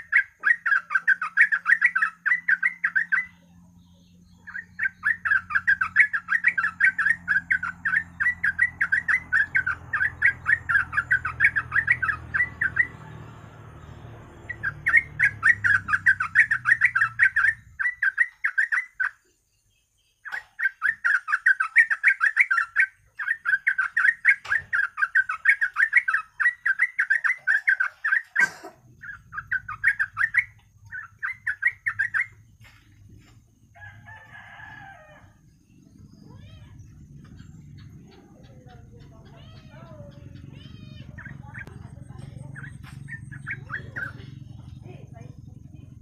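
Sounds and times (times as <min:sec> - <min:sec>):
bird chattering calls: 0:00.0 - 0:19.3, 0:20.2 - 0:33.3, 0:35.7 - 0:46.0.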